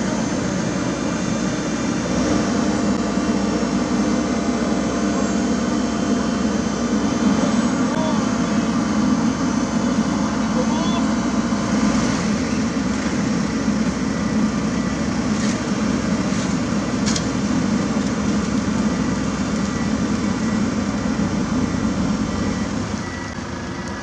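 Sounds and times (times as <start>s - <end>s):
diesel paving machinery running: 0.0s - 24.0s.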